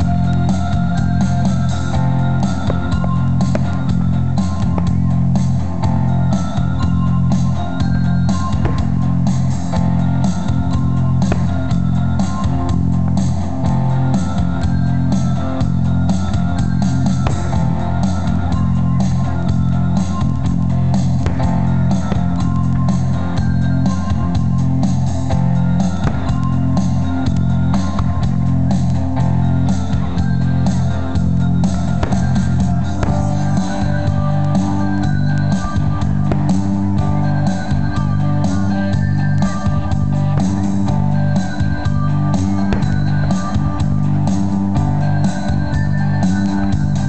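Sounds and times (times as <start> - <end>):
rock music with guitar bass drums: 0.0 - 47.0.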